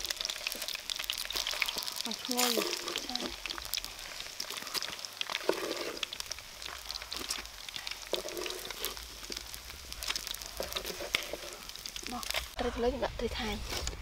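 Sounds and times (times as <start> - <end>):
fish frying in sizzling oil: 0.0 - 14.0.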